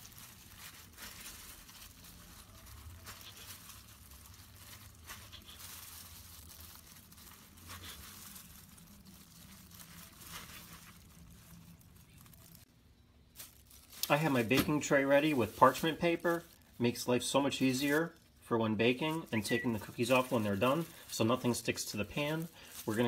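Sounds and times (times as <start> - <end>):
plastic gloves crinkling: 0.0 - 23.0.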